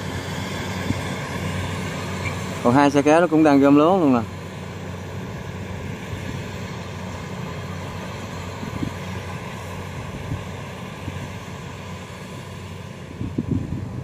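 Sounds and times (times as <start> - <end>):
combine harvester running: 0.0 - 14.0.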